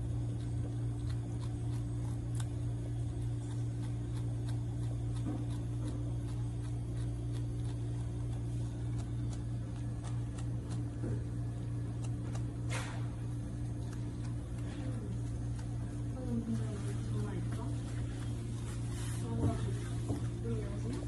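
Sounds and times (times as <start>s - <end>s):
low mechanical hum: 0.0s - 21.0s
wallaby chewing leaves: 0.0s - 21.0s.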